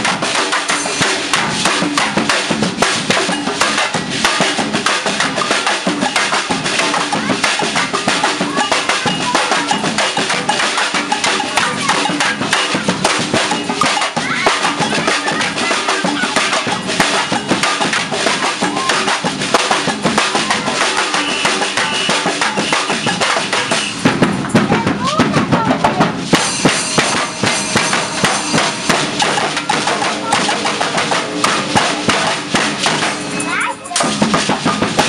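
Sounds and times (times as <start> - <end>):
surdo bass drums: 0.0 - 33.4
snare drums: 0.0 - 35.0
tamborims struck with sticks: 0.0 - 35.0.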